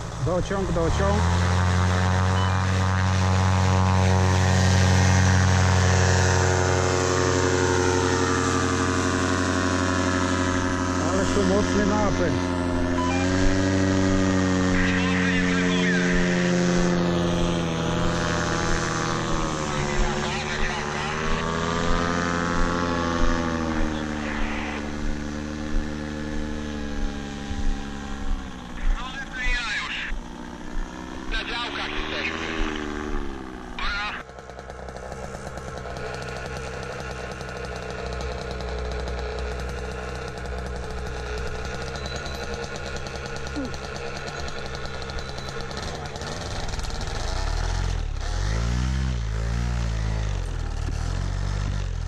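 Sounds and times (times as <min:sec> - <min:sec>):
paramotor engine and propeller: 0:00.0 - 0:52.0.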